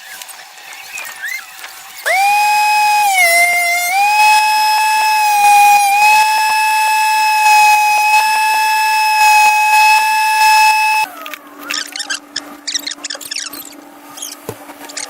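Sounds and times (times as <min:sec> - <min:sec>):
woodworking power tool whining: 0:00.0 - 0:15.0.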